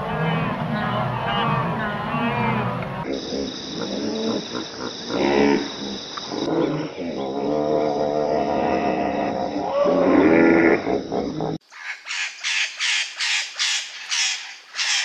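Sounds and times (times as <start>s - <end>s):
animal calling: 0.0s - 15.0s.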